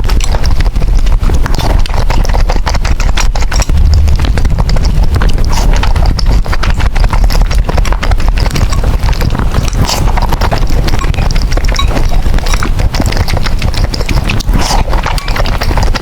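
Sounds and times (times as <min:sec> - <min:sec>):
chewing and slurping noodles: 0:00.0 - 0:16.0.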